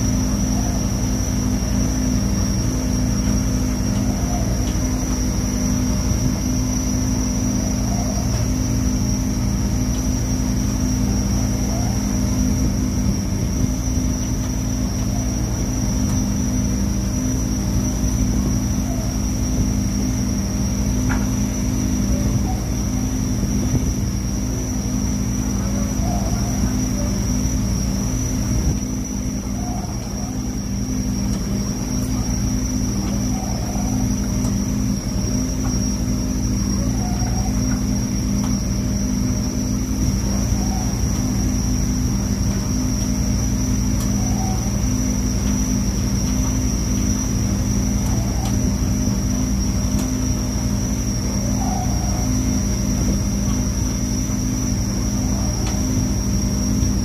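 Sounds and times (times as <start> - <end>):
boat engine and machinery drone: 0.0 - 57.0
high whine: 0.0 - 57.0.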